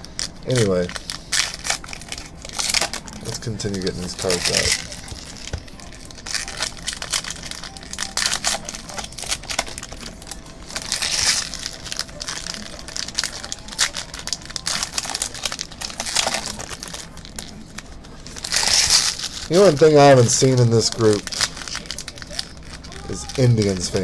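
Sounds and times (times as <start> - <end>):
wrappers crinkling and tearing: 0.0 - 24.0.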